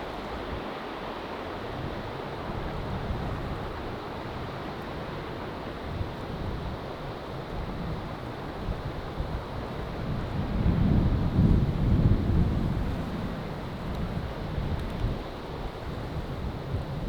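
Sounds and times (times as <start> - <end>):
wind buffeting microphone: 1.6 - 17.0.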